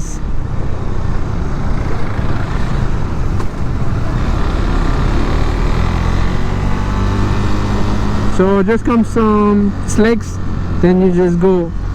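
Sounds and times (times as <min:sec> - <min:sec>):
motorcycle engine cruising: 0:00.0 - 0:11.9
road noise: 0:00.0 - 0:11.9.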